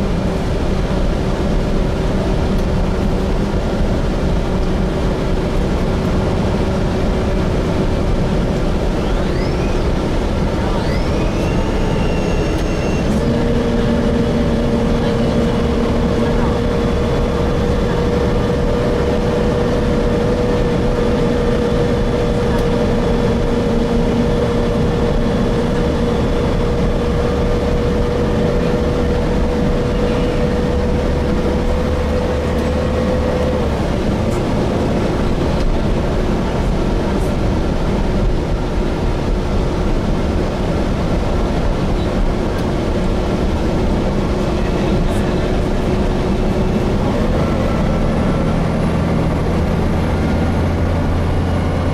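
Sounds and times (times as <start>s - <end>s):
bus rumble inside: 0.0s - 51.9s
bus transmission whine: 0.0s - 51.9s.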